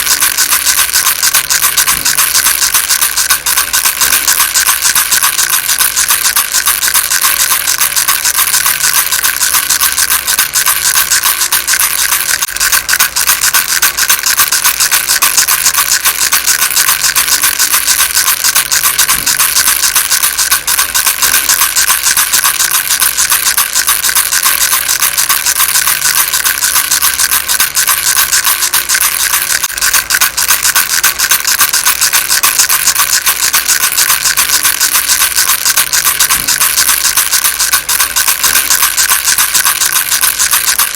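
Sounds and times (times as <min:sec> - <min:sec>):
baby rattle shaken: 0:00.0 - 0:40.9.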